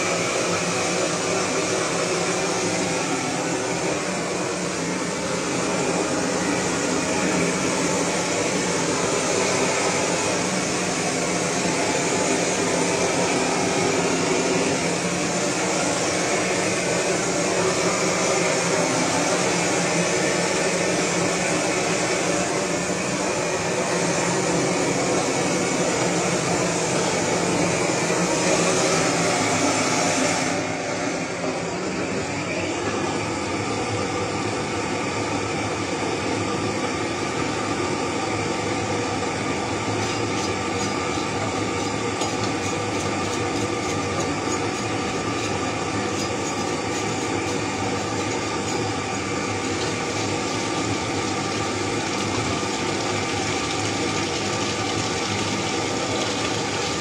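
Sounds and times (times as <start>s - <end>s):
gas torch rushing: 0.0s - 57.0s.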